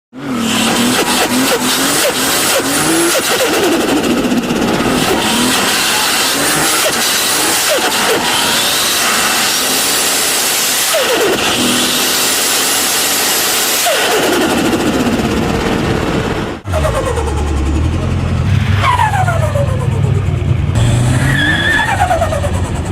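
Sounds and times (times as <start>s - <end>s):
car engines revving: 0.2s - 22.9s.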